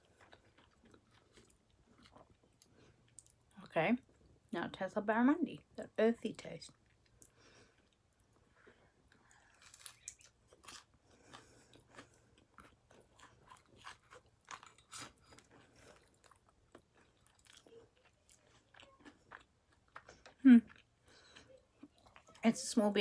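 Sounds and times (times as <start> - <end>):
crunchy chewing: 0.0 - 3.4, 7.0 - 22.4.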